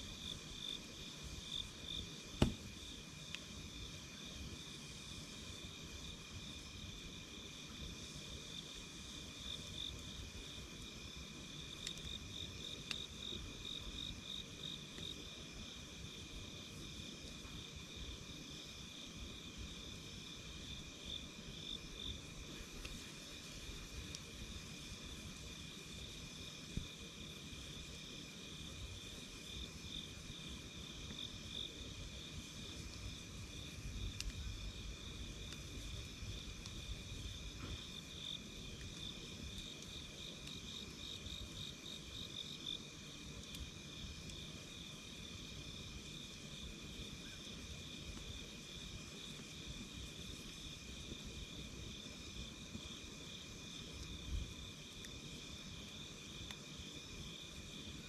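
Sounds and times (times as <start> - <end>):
faint campfire crackles: 0.0 - 58.0
insects chirping: 0.0 - 58.0.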